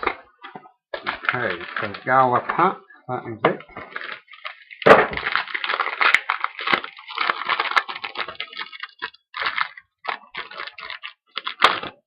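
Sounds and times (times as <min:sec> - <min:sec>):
wrapper crinkling and tearing: 0:01.0 - 0:02.6, 0:03.6 - 0:12.0.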